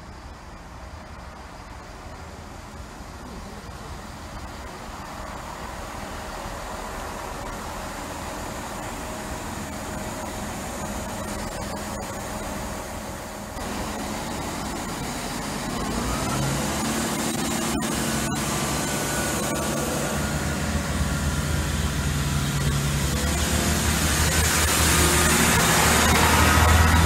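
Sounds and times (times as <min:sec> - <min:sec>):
diesel train engines throttling up: 0:00.0 - 0:27.0
train wheel and air noise: 0:00.0 - 0:27.0.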